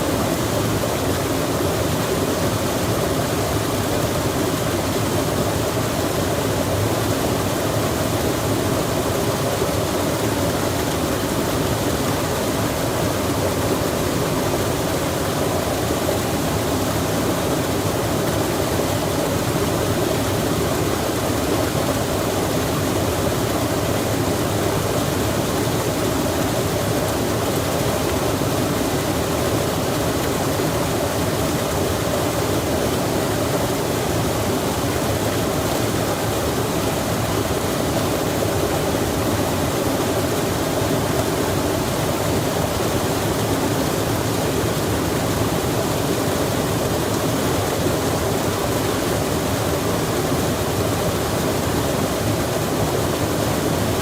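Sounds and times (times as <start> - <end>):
stream flowing: 0.0 - 54.0
rain falling: 0.1 - 54.0.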